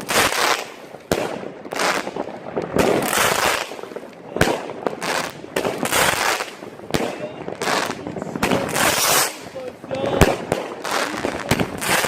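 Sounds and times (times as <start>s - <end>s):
firework shots cracking: 0.0s - 12.0s.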